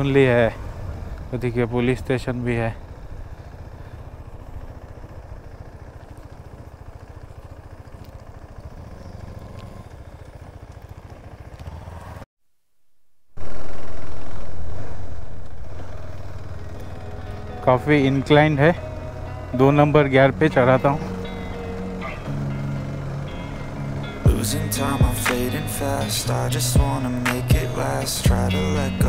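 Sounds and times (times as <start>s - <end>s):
motorcycle engine running: 0.0s - 12.3s, 13.4s - 29.0s.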